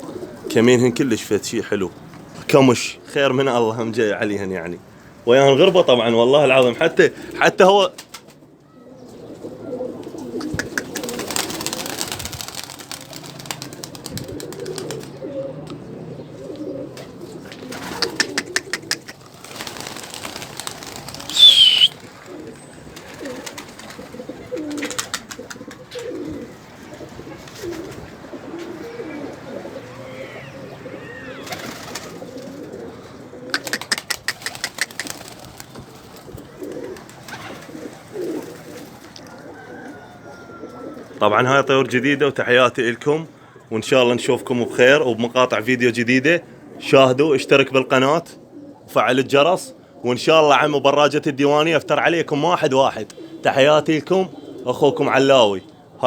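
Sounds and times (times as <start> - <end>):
pigeons cooing: 0.0 - 3.7, 4.8 - 56.0.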